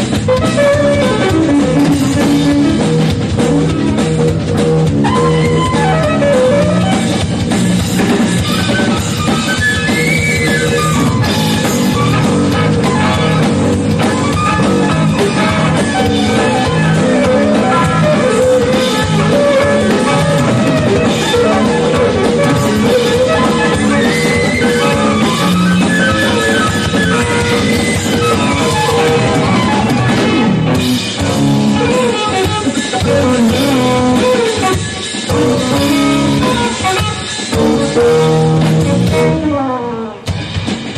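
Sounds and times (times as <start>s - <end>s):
drum kit: 0.0s - 40.9s
electric guitar: 0.0s - 40.9s
live rock band playing: 0.0s - 40.9s.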